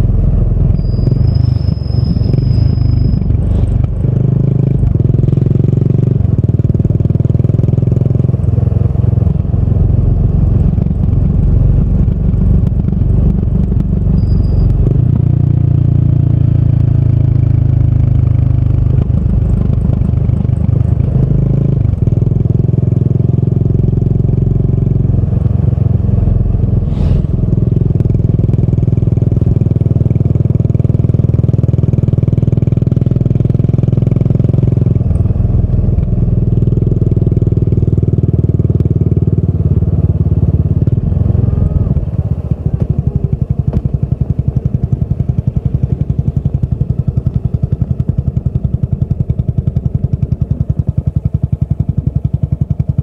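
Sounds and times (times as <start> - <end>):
motorcycle engine exhaust: 0.0 - 53.0.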